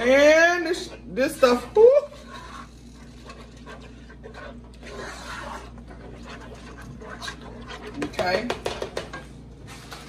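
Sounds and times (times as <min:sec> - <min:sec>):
spatula scraping a pot: 0:00.0 - 0:10.0.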